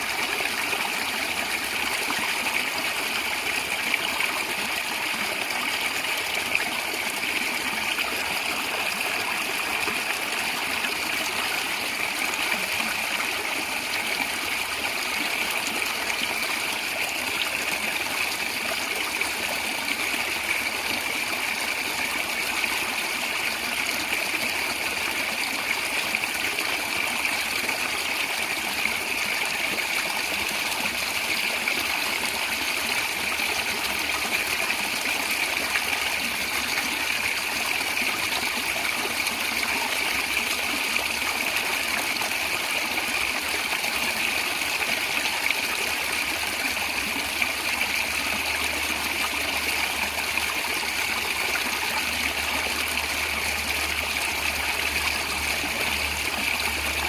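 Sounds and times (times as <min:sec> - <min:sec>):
stream gurgling over stones: 0:00.0 - 0:57.0.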